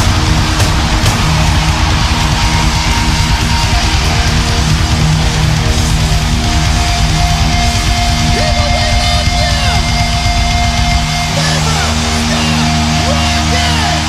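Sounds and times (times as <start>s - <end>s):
heavy rock music: 0.0s - 14.0s.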